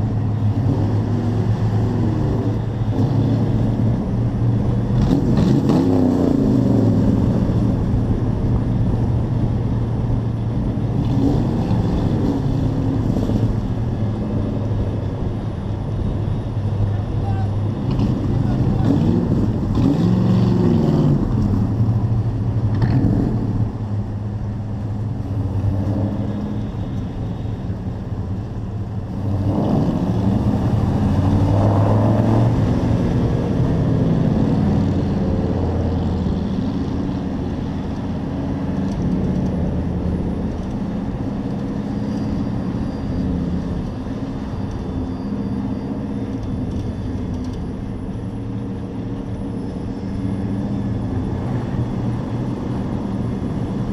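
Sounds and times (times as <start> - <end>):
truck engine revving: 0.0 - 15.0, 17.7 - 46.8.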